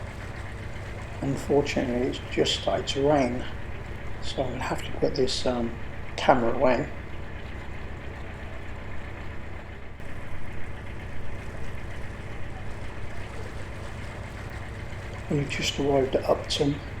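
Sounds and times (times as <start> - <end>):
diesel boat engine humming: 0.0 - 17.0.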